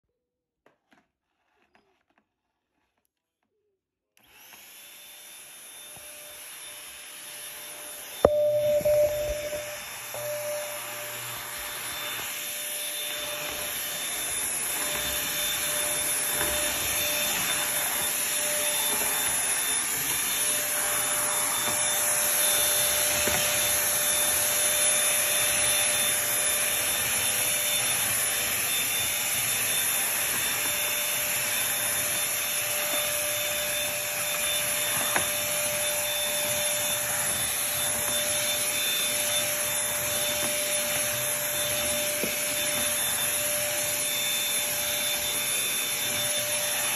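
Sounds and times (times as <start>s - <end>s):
stick vacuum running: 4.2s - 46.9s.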